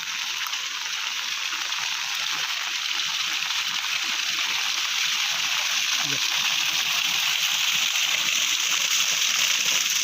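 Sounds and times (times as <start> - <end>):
rainwater pouring from a pipe: 0.0 - 10.0.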